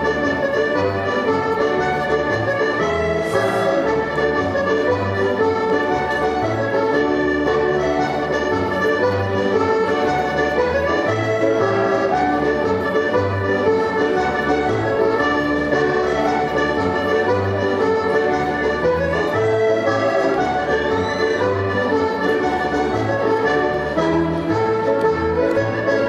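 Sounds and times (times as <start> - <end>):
lively jig dance music: 0.0 - 26.0.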